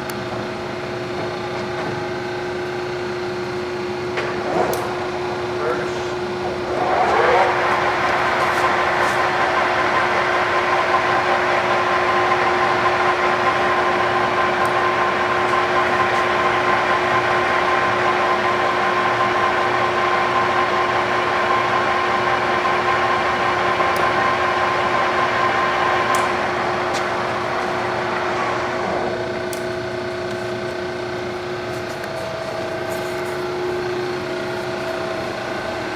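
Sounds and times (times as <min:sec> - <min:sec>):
lathe gearing whine: 0:00.0 - 0:35.9.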